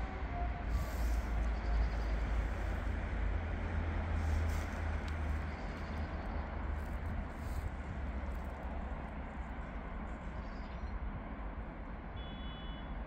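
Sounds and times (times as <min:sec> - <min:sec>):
diesel railcar rumbling past: 0:00.0 - 0:11.8.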